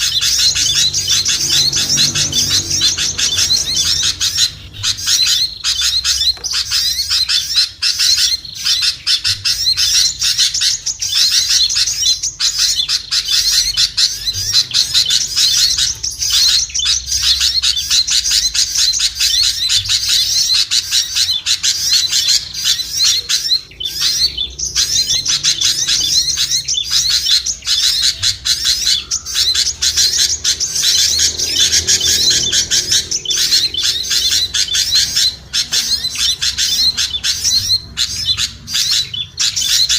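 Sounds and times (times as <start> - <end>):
small songbirds chirping rapidly: 0.0 - 39.9.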